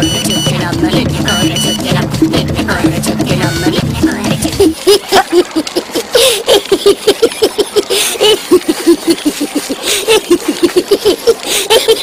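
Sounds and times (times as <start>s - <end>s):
high-pitched gibberish chattering: 0.0s - 12.0s.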